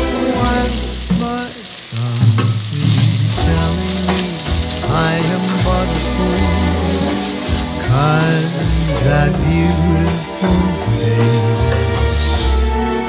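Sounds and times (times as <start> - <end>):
vegetables sizzling in a pot: 0.0 - 11.7
slow song playing: 0.0 - 13.0.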